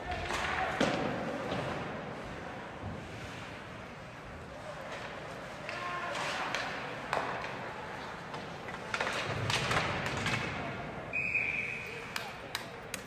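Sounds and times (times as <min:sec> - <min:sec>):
hockey sticks and puck clacking: 0:00.0 - 0:13.0
murmur of rink: 0:00.0 - 0:13.0.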